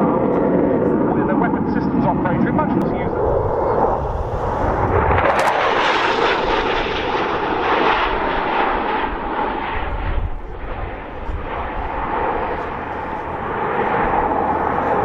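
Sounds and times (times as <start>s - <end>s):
fighter jet flying past: 0.0s - 15.0s.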